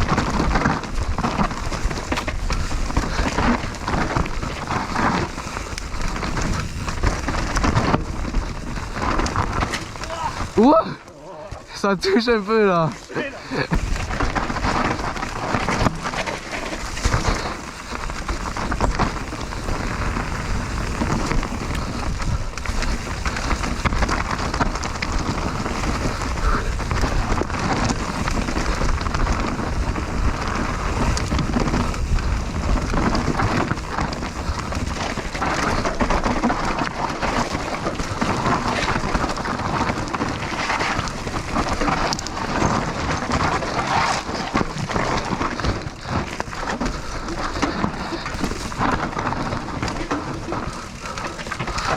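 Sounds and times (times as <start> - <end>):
bike rattling over bumps: 0.0 - 51.9
tyres on loose earth: 0.0 - 51.9
wind rushing on microphone: 0.0 - 51.9.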